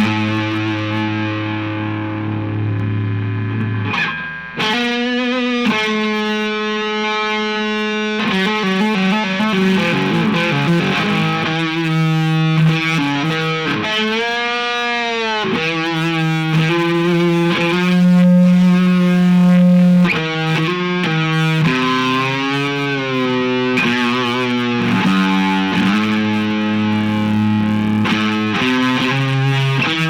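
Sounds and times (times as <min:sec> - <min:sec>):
distorted electric guitar lead: 0:00.0 - 0:30.0.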